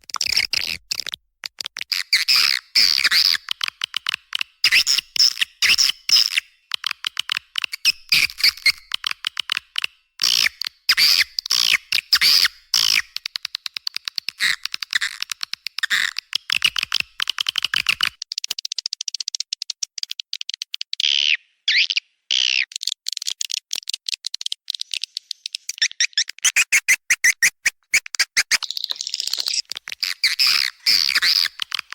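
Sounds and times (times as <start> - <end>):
swiftlet clicks and twittering: 1.4 - 31.9.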